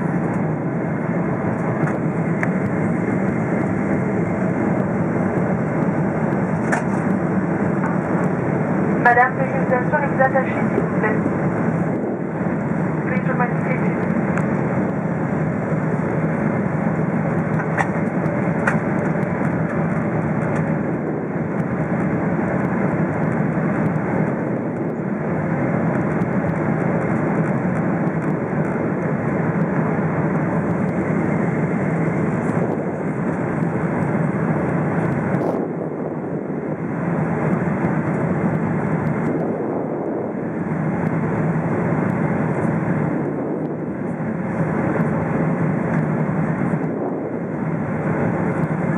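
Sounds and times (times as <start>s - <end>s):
airplane cabin engine and airflow noise: 0.0s - 48.9s.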